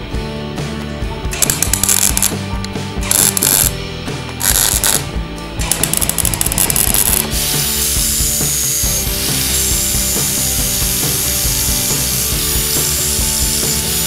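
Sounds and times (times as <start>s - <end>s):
angle grinder grinding metal: 1.4s - 3.8s, 4.4s - 14.0s.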